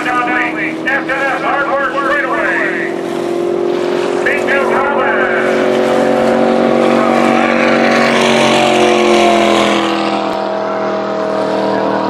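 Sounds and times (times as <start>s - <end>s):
boat engine passing by: 0.0s - 12.0s.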